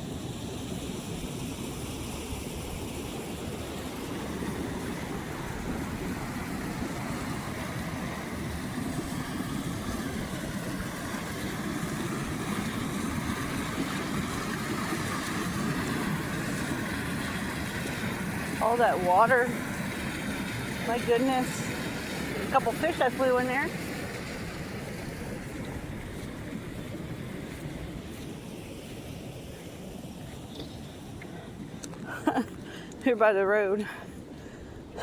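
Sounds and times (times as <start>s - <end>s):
floodwater rushing: 0.1s - 35.0s.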